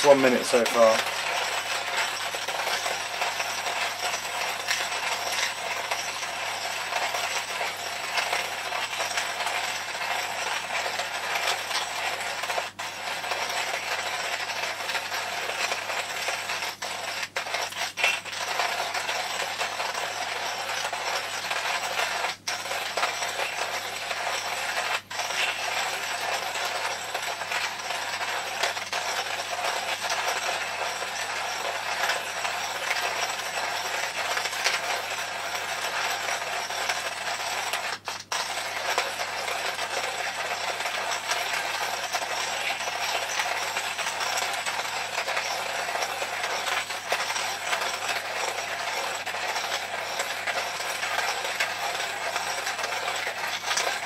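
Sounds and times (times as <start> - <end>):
hand coffee grinder crunching beans: 0.0 - 54.0.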